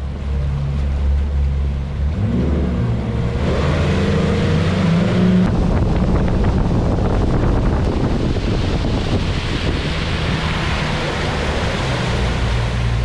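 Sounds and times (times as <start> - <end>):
boat motor revving: 0.0 - 13.0
water rushing: 0.0 - 13.0
wind noise: 2.2 - 13.0.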